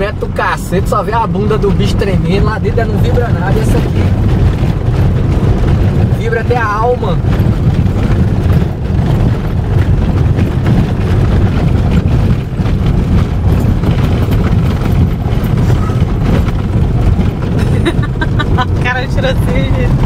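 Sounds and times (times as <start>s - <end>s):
car rumbling over rough road: 0.0s - 20.0s.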